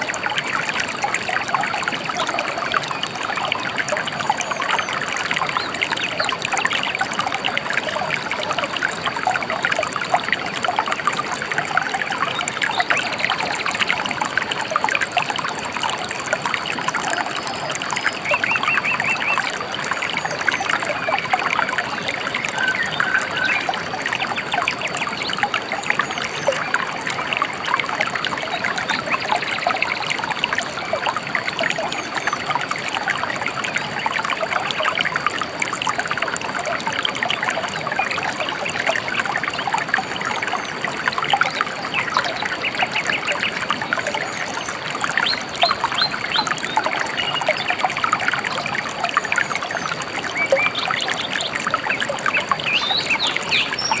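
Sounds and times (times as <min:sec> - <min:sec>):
river babbling: 0:00.0 - 0:54.0.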